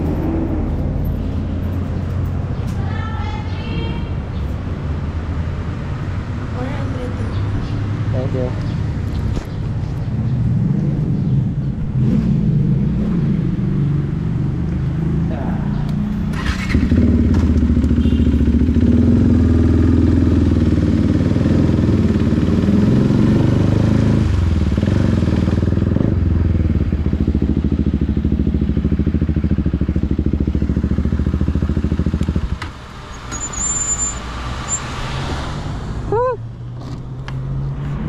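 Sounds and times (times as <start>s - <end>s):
motorcycle engine revving: 4.9s - 38.0s.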